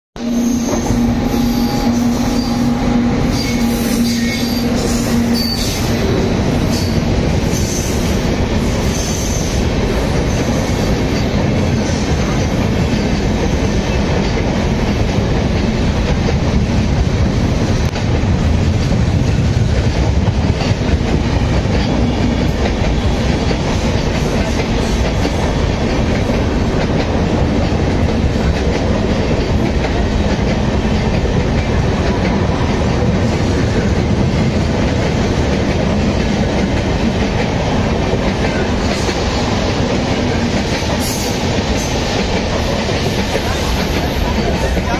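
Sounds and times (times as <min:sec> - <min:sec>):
electric locomotive humming: 0:00.2 - 0:44.9
train wheel roar: 0:00.2 - 0:44.9.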